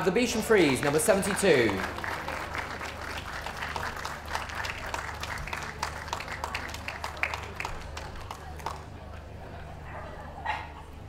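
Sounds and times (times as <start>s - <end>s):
spectators applauding: 0.0s - 9.3s.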